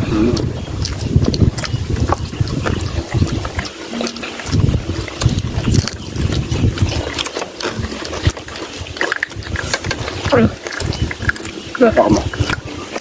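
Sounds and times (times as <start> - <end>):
chewing and wet mouth sounds: 0.0 - 13.0
food crunching: 0.0 - 13.0.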